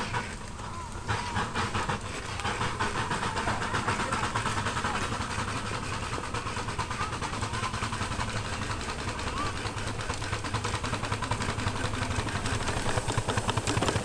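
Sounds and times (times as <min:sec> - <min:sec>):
steam engine exhaust chuffing: 0:00.0 - 0:14.0.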